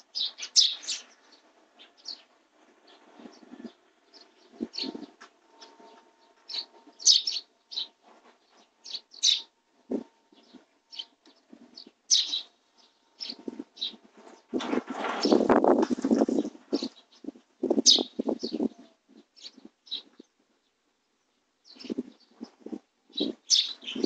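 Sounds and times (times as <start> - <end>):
sparrows chirping: 0.0 - 24.0.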